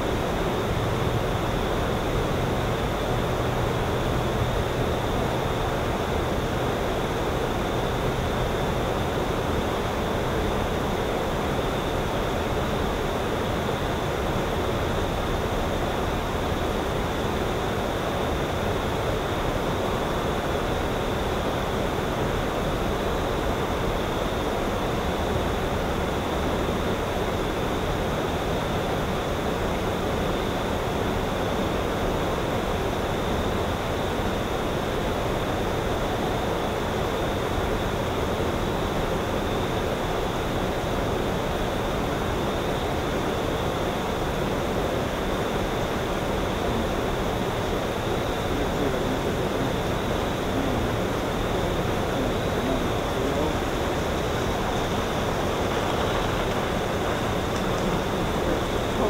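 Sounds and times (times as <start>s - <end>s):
faint low hum: 0.0s - 59.0s
rushing outdoor ambience: 0.0s - 59.0s.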